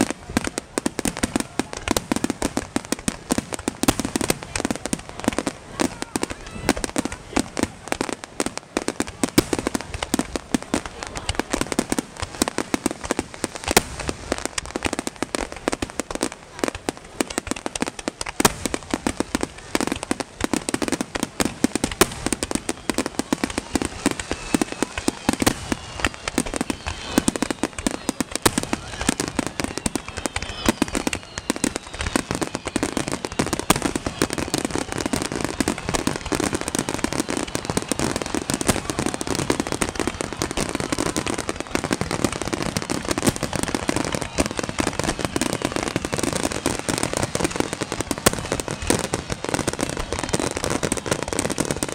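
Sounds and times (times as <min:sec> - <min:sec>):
fireworks bursting and crackling: 0:00.0 - 0:51.9
whistling fireworks: 0:00.0 - 0:51.9.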